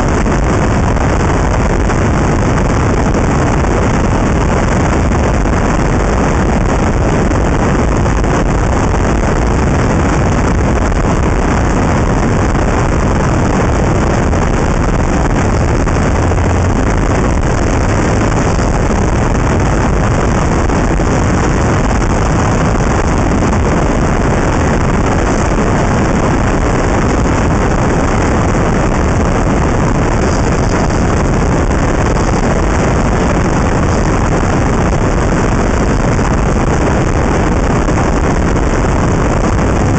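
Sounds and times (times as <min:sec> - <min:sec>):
tyre and road noise: 0:00.0 - 0:39.9
wind noise on microphone: 0:00.0 - 0:39.9.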